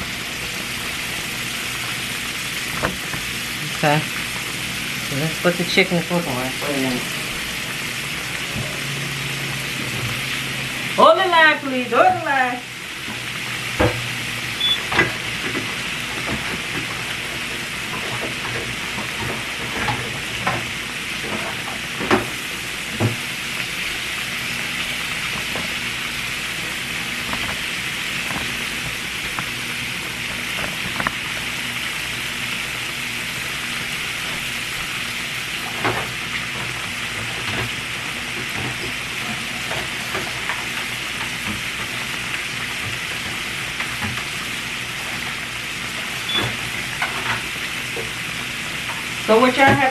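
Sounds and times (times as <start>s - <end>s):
food sizzling in hot oil: 0.0s - 49.9s.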